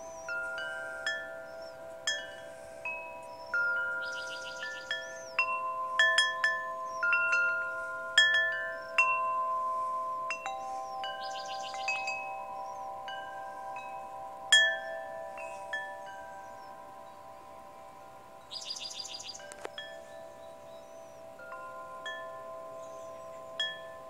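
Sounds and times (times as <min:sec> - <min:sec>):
metal tube wind chimes ringing: 0:00.0 - 0:24.0.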